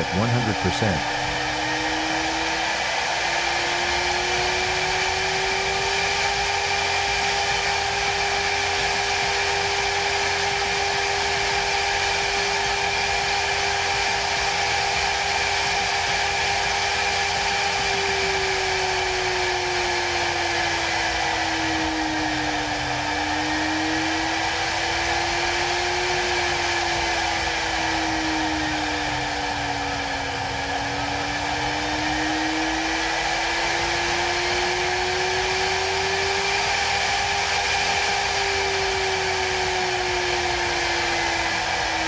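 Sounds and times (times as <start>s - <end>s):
router spindle whining: 0.0s - 42.0s.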